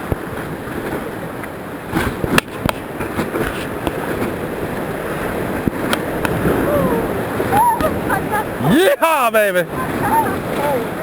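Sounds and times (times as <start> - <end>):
whitewater rushing: 0.0 - 11.0.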